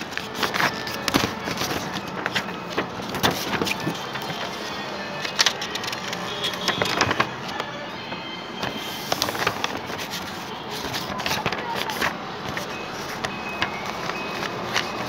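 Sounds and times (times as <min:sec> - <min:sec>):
paper rustling and crackling: 0:00.0 - 0:15.0.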